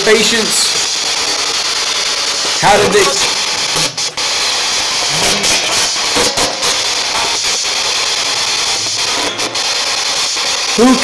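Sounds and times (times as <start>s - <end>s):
radio static sweeping stations: 0.0s - 11.0s.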